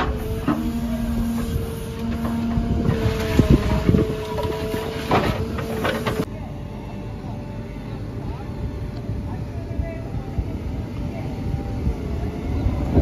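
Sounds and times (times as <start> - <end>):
diesel engine under load: 0.0 - 13.0
hydraulic whine: 0.0 - 13.0.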